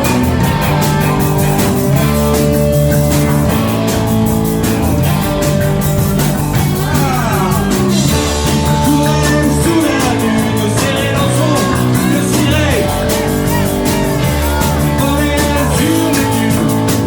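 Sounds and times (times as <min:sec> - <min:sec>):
bending guitar line or singing: 0:00.0 - 0:17.0
rock band playing live: 0:00.0 - 0:17.0.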